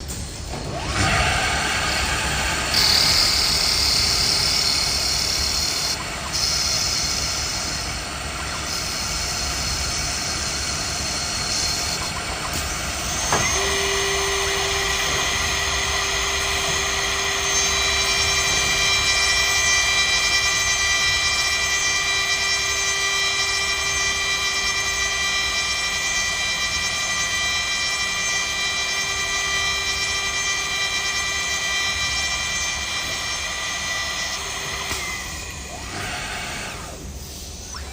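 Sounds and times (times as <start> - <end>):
machine whine: 0.0 - 37.9
wood lathe cutting hiss: 0.8 - 37.7.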